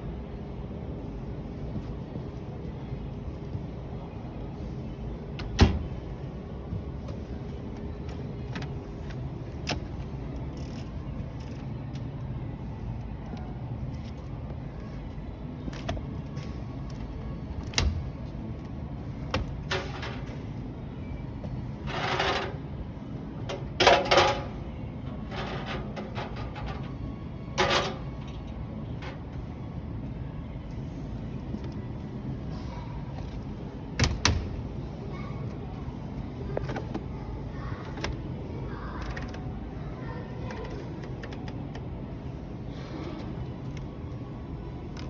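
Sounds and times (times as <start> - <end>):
shop background hum: 0.0 - 45.0.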